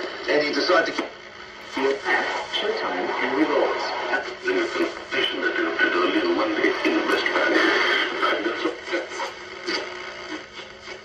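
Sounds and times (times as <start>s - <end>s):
radio music: 0.0s - 11.0s
radio station speech: 0.0s - 11.0s.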